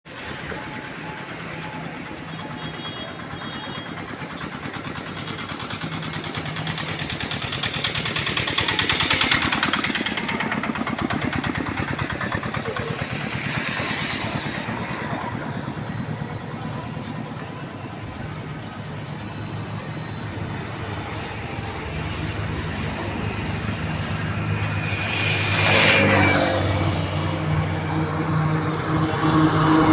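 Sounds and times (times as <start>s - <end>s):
vehicles passing close by: 0.1s - 29.9s
steady rushing noise: 5.9s - 29.9s.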